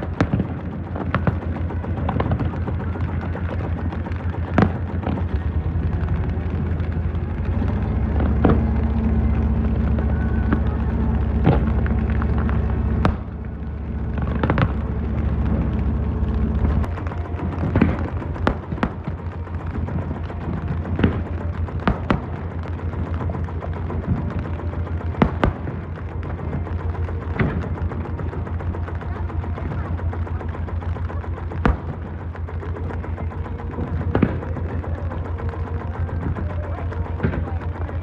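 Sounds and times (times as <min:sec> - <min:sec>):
fireworks bangs and booms: 0:00.0 - 0:38.0
steady low drone: 0:00.0 - 0:38.0.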